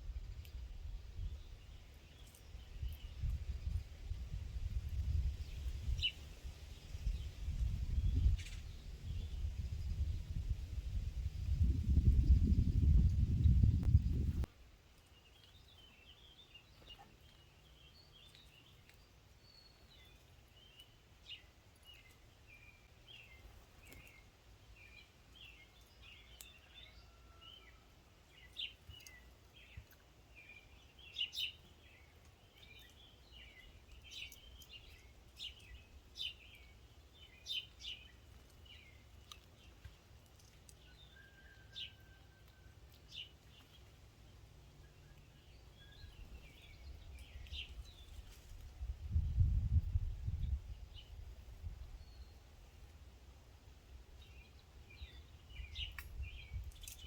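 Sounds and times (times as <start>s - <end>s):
small birds chirping: 0.0s - 53.1s, 53.9s - 57.0s.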